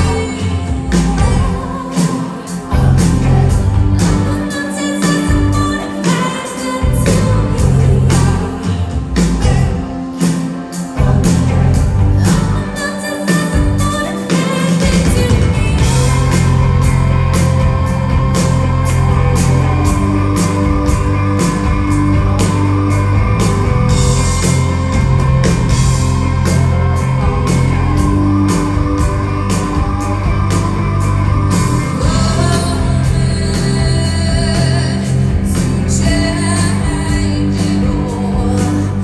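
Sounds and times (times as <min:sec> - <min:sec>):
drum kit beat: 0:00.0 - 0:39.0
rock band playing live: 0:00.0 - 0:39.0.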